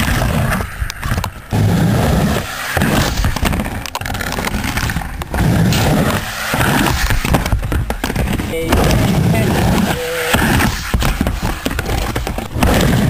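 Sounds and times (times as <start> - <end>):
skateboard clacking on concrete: 0.0 - 13.0
skateboard wheels rolling on concrete: 0.0 - 13.0.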